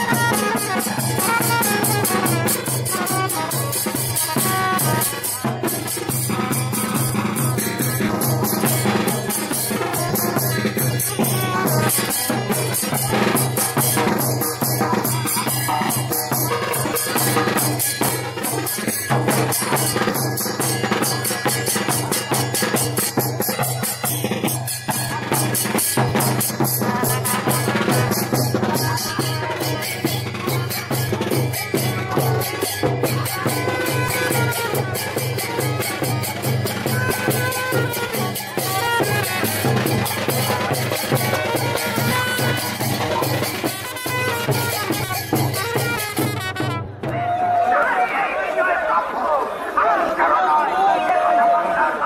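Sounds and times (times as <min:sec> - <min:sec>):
marching drums: 0:00.0 - 0:47.7.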